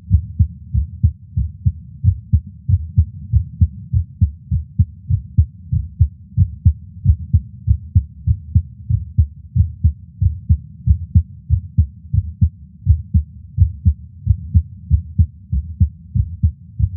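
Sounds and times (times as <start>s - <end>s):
heartbeat through stethoscope: 0.0s - 16.9s.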